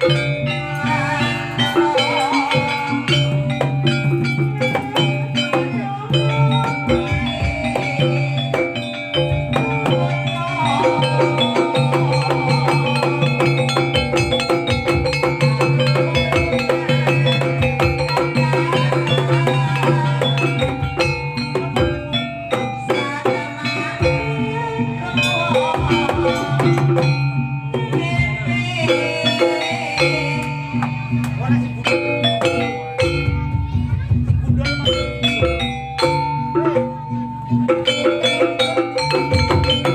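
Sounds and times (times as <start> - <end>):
struck metal percussion: 0.0 - 39.9
wavering melody line: 0.0 - 39.9.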